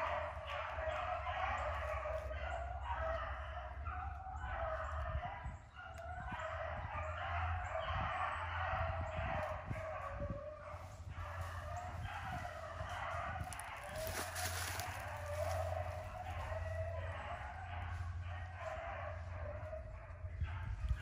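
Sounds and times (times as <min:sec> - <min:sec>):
pack of hounds baying: 0:00.0 - 0:21.0.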